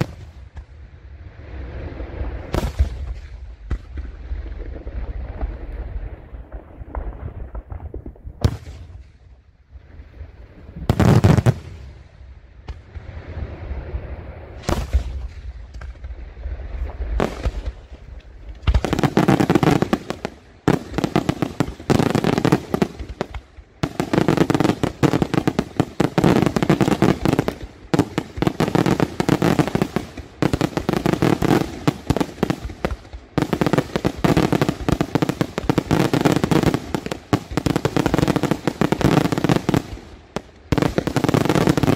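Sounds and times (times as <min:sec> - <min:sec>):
rapid fireworks bangs and crackling: 0:00.0 - 0:00.8, 0:02.5 - 0:04.7, 0:06.4 - 0:09.4, 0:10.9 - 0:13.1, 0:14.6 - 0:41.9.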